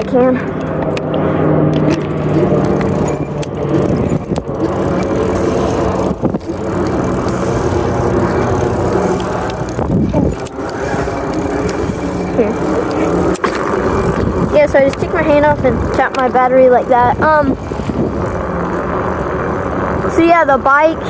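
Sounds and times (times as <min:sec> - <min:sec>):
bike tyres on wet road: 0:00.0 - 0:21.0
low hum: 0:00.0 - 0:21.0.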